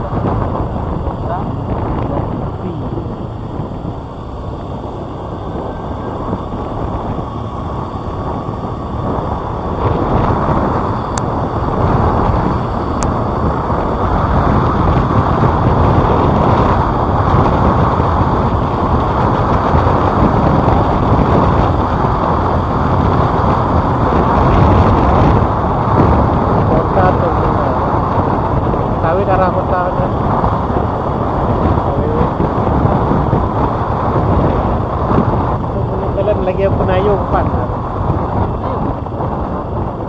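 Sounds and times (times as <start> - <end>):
wind and road noise: 0.0 - 40.0
wind buffeting microphone: 0.0 - 40.0.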